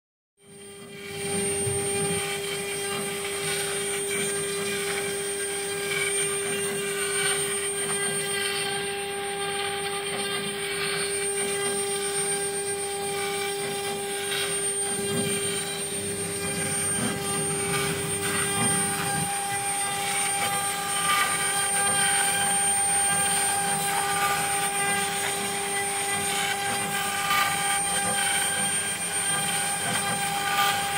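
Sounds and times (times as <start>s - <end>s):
router spindle whining: 0.4s - 30.9s.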